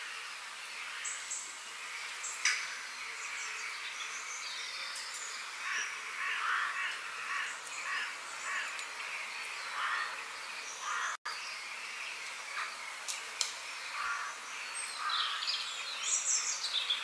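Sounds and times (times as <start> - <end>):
birds with harsh calls: 0.0 - 17.0
steady high hiss: 0.0 - 17.0.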